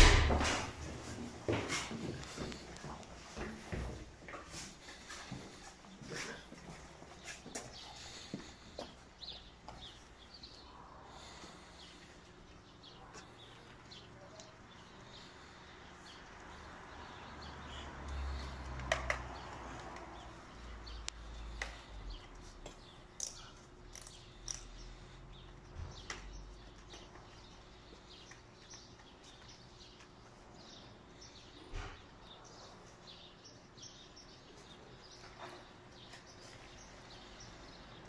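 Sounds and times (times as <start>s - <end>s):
faint street ambience: 0.0s - 38.0s
small birds chirping: 2.0s - 38.0s.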